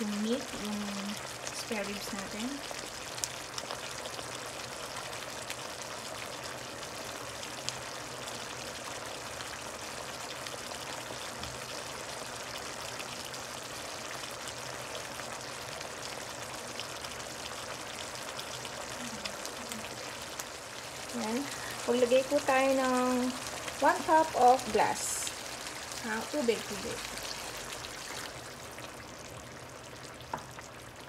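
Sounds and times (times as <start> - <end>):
liquid boiling with bubbling hiss: 0.0 - 31.0.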